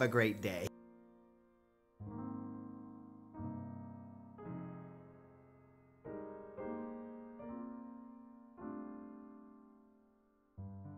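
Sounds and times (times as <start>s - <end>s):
ringing piano chords: 0.0s - 10.9s.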